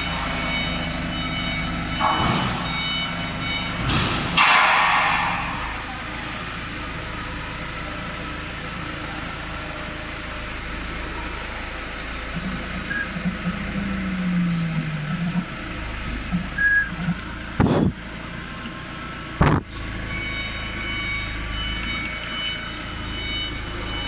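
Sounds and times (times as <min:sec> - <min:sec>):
cnc router machine hum: 0:00.0 - 0:24.0
low motor tone wavering: 0:00.0 - 0:24.0
spindle whining: 0:00.0 - 0:24.0.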